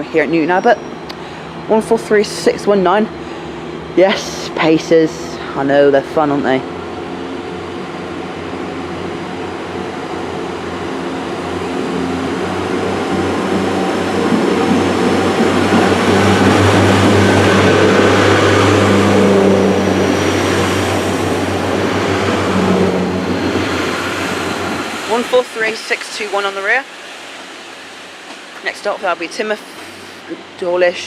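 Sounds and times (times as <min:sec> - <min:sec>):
diesel train engines pulling away: 0:00.0 - 0:31.0.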